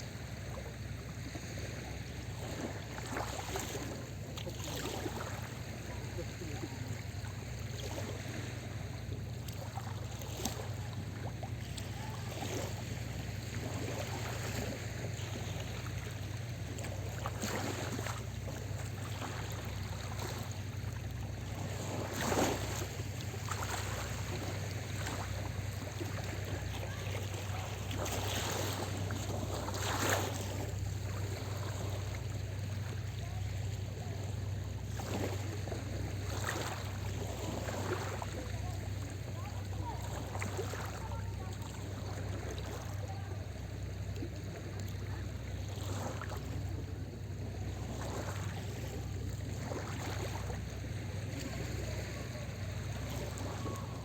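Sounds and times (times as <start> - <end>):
sea waves splashing on beach: 0.0 - 54.0
steady low hum: 0.0 - 54.0.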